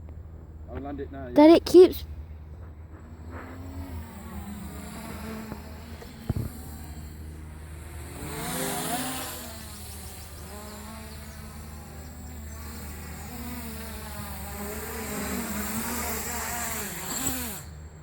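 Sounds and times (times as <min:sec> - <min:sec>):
drone propellers buzzing: 0:02.2 - 0:18.0.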